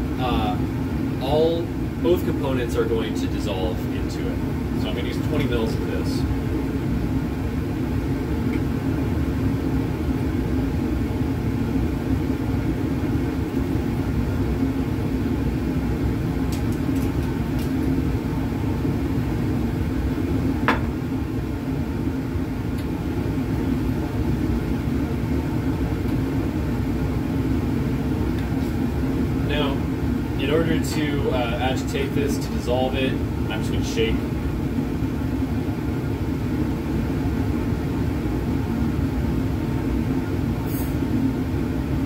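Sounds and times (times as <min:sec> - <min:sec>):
fume hood ventilation rumble: 0:00.0 - 0:42.0.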